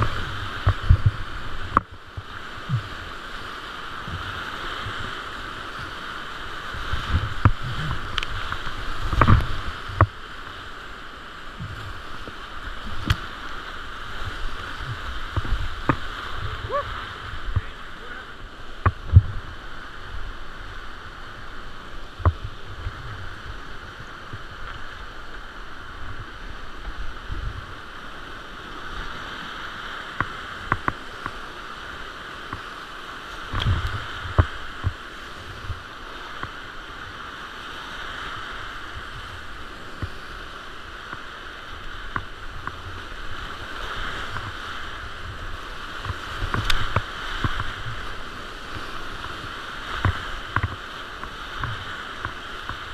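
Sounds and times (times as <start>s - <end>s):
whitewater rapids rushing: 0.0s - 52.9s.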